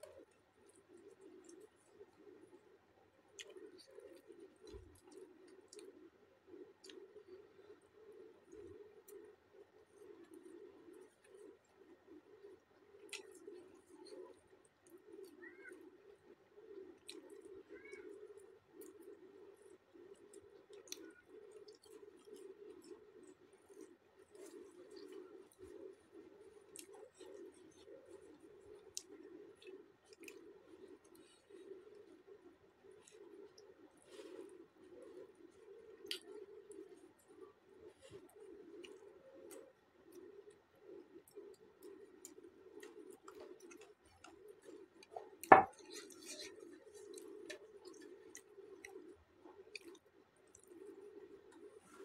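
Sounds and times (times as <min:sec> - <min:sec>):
chewing: 0:00.0 - 0:52.0
wet mouth clicks: 0:03.3 - 0:07.8, 0:08.4 - 0:15.8, 0:16.6 - 0:17.8, 0:18.4 - 0:32.3, 0:34.8 - 0:52.0.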